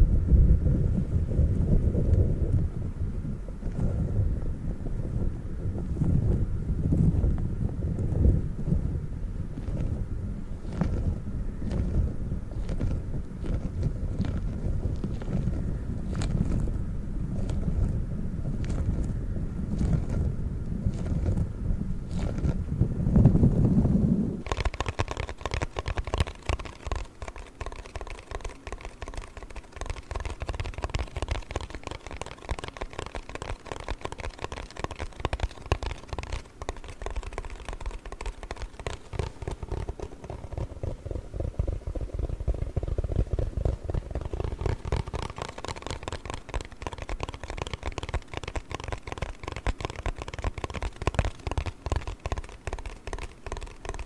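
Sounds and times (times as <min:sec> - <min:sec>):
tapping and scratching on cardboard: 0:09.5 - 0:10.0, 0:10.6 - 0:21.5, 0:22.1 - 0:54.0.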